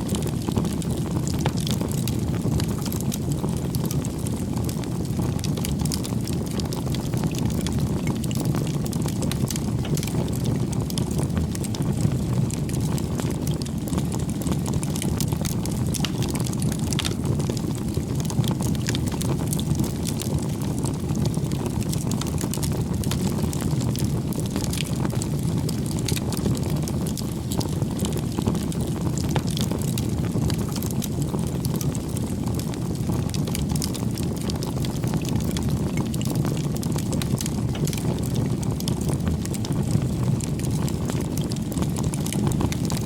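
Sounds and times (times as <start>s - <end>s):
bonfire crackling: 0.0s - 43.0s.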